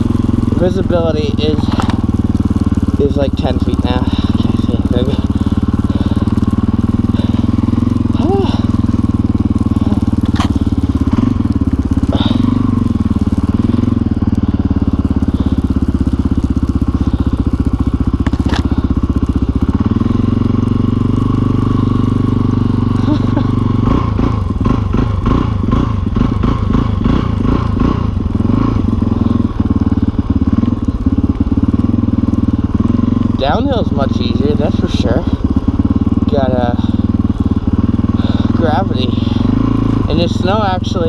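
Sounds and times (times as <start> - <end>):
dirt bike engine thumping: 0.0 - 34.1.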